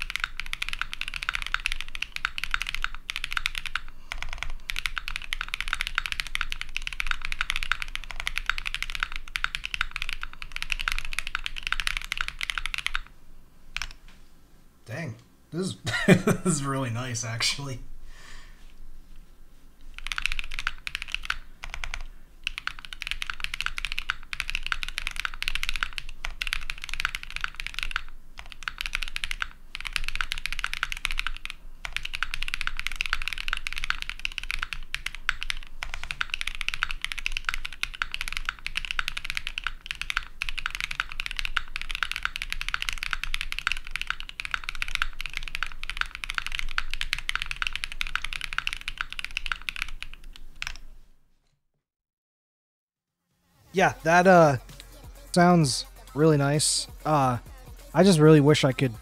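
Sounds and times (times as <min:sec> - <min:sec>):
fast mechanical keyboard typing: 0:00.0 - 0:13.1, 0:13.8 - 0:14.0, 0:19.9 - 0:50.9, 0:55.4 - 0:59.0.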